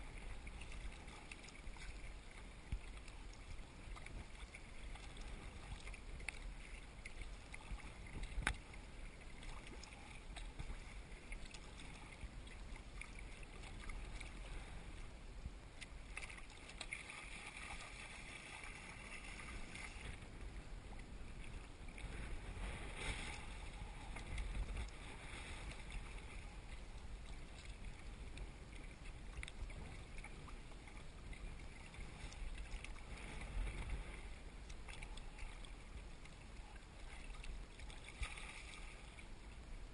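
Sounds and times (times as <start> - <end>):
kayak paddle strokes splashing: 0.0 - 39.9
water washing against hull: 0.0 - 39.9.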